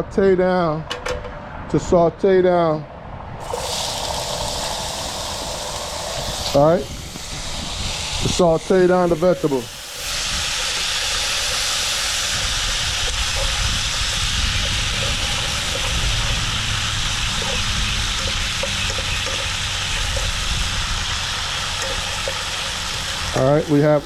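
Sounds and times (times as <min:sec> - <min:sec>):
vegetables sizzling in oil: 0:03.4 - 0:24.0.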